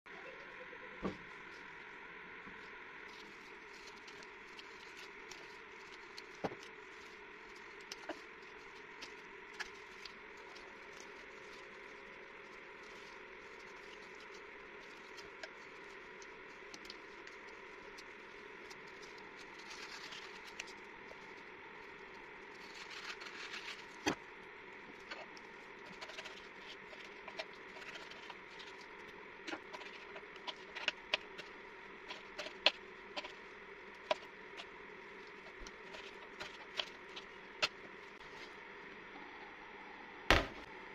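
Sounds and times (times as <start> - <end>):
steady hum: 0.1 - 40.9.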